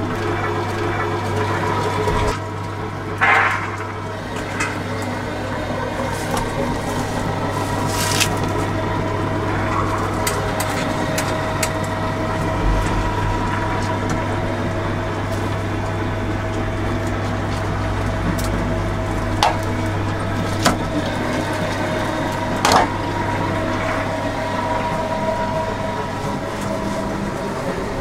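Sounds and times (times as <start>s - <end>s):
electric meat mincer humming: 0.0s - 28.0s.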